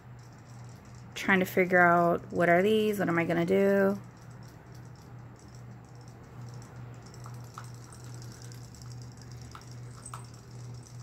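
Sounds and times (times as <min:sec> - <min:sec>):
light irregular ticking: 0:00.0 - 0:11.0
low motor hum: 0:00.0 - 0:11.0.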